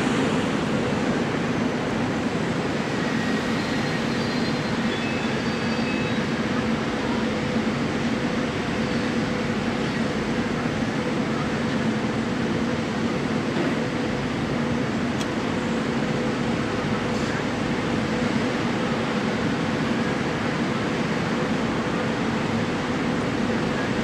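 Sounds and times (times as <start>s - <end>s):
steady background rumble: 0.0s - 24.0s.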